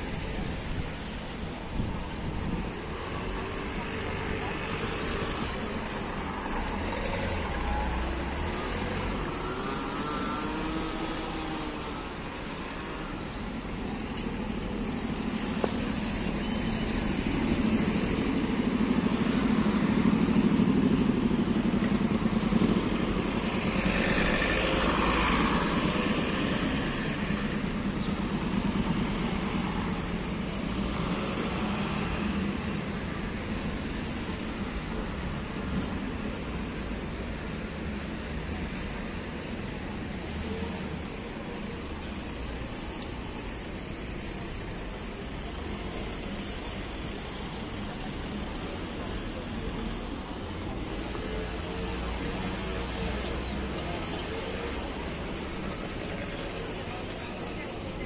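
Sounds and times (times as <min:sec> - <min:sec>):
cars passing: 0:00.0 - 0:58.0.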